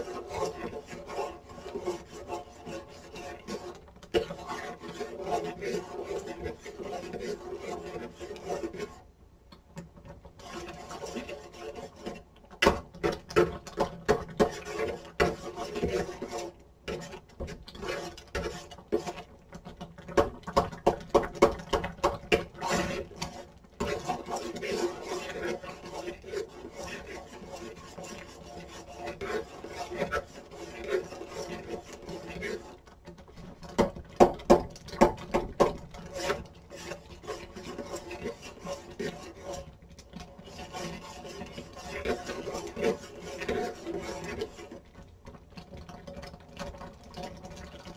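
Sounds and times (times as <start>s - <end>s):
utensil scraping and knocking: 0.0s - 9.1s, 9.8s - 47.4s.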